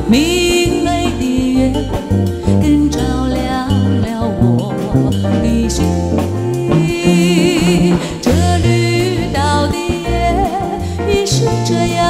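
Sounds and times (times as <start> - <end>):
song with singing over bass: 0.0 - 12.0.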